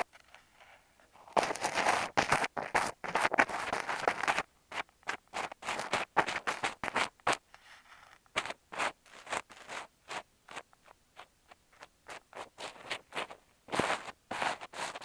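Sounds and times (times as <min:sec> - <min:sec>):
scratchy scraping on microphone: 0:00.0 - 0:15.0
soft rub on microphone: 0:00.4 - 0:15.0.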